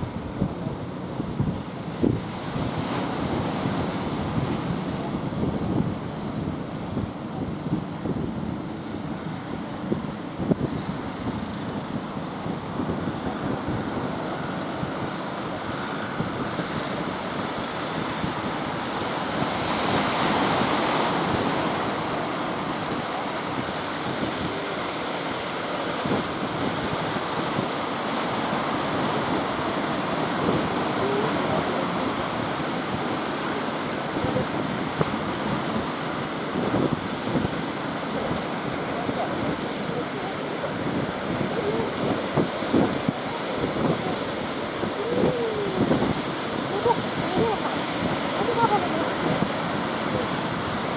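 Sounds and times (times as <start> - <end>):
ocean surf breaking: 0.0 - 50.9
wind buffeting microphone: 0.0 - 50.9.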